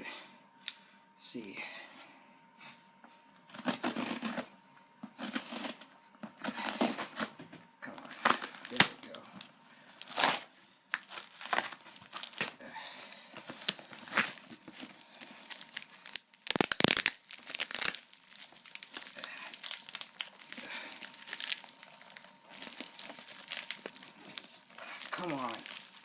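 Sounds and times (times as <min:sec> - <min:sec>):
packaging crinkling and tearing: 0:03.5 - 0:04.6, 0:05.2 - 0:07.4, 0:08.0 - 0:26.0.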